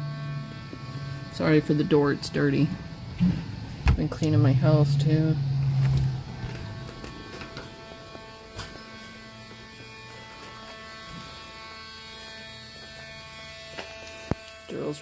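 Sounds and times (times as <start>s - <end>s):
rotary tool motor whine: 0.0s - 15.0s.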